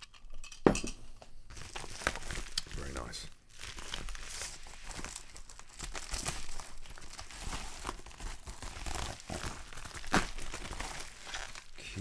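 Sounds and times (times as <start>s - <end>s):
mailer bag crinkling: 1.5s - 12.0s.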